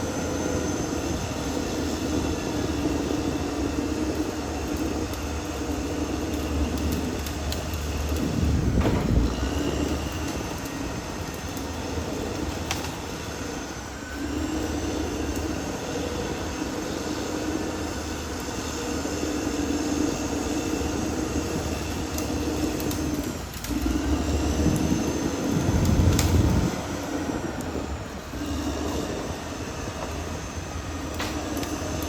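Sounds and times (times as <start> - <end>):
bulldozer diesel engine: 0.0 - 32.0
steel tracks running: 0.0 - 32.0.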